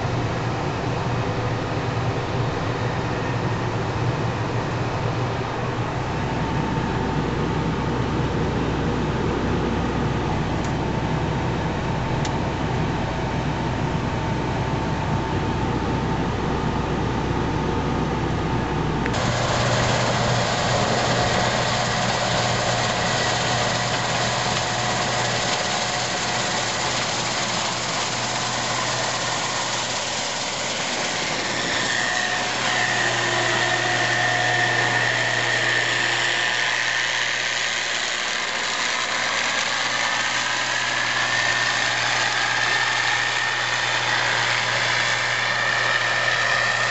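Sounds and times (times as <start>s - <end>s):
combine harvester drone: 0.0s - 46.9s
high machine whine: 0.0s - 46.9s.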